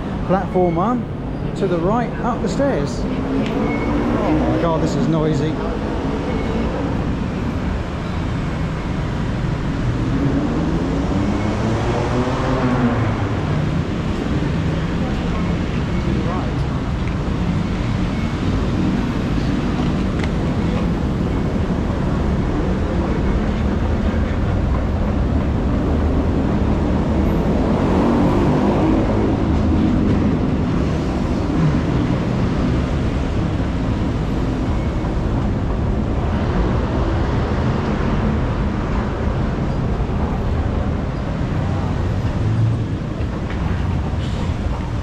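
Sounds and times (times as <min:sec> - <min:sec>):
rumble of trains and traffic: 0:00.0 - 0:45.0.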